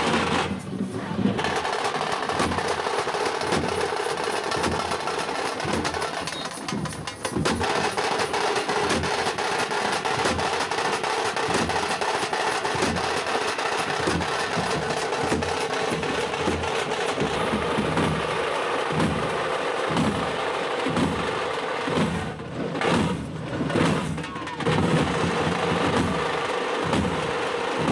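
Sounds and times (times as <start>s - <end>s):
frame drums beaten with sticks: 0.0s - 27.9s.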